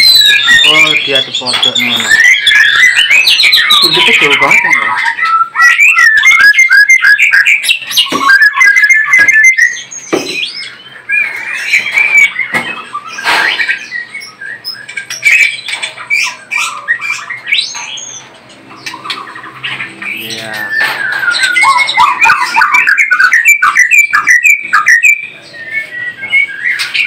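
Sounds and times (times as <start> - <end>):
bird calls and chatters: 0.0 - 27.0
bird whistling repeated notes: 0.0 - 27.0.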